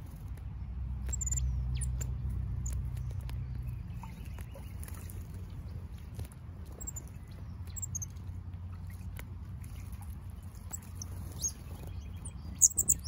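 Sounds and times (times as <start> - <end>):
birds splashing in water: 0.0 - 13.0
low outdoor rumble: 0.0 - 13.0
small birds chirping: 0.0 - 13.0.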